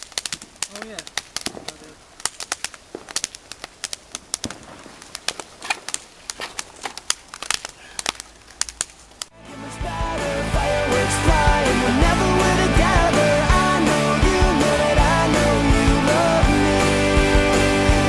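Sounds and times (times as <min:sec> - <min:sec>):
fireworks crackling: 0:00.0 - 0:09.4, 0:10.0 - 0:18.0.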